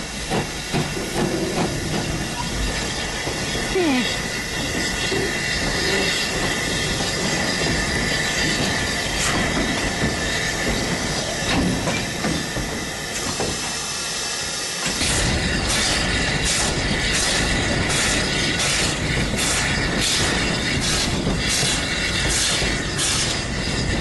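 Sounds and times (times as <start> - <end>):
steam hissing: 0.0 - 24.0
train wheels on rails: 0.0 - 24.0.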